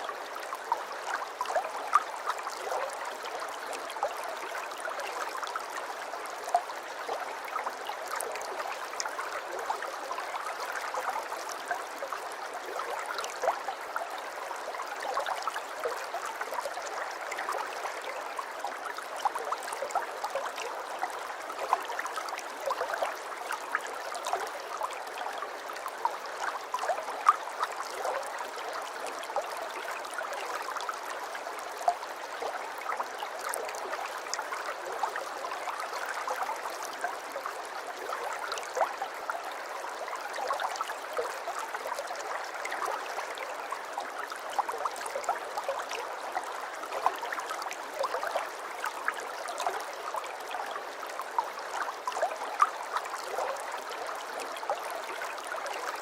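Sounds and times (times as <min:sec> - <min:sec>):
aquarium water trickling and bubbling: 0:00.0 - 0:56.0.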